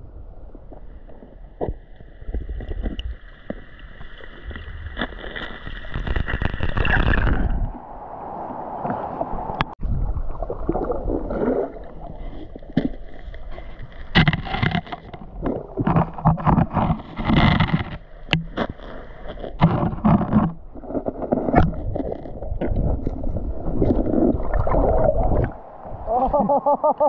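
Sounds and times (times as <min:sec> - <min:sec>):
underwater rumbling and gurgling: 0:00.0 - 0:26.4
water sloshing and splashing: 0:01.1 - 0:26.1.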